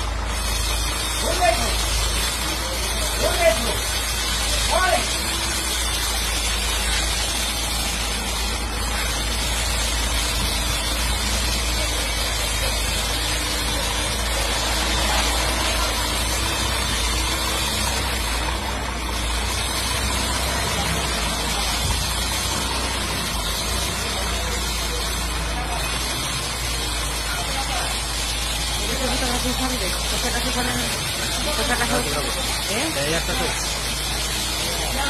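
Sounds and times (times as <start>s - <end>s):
truck diesel engine low rumble: 0.0s - 35.0s.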